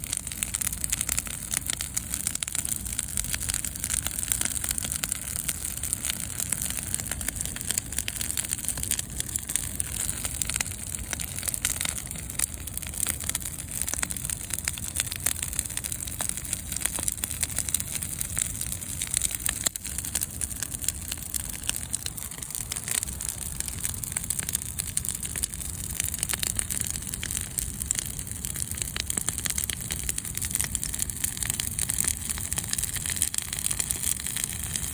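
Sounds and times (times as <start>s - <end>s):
low fire rumble: 0.0s - 34.9s
wood fire crackling: 0.0s - 34.9s.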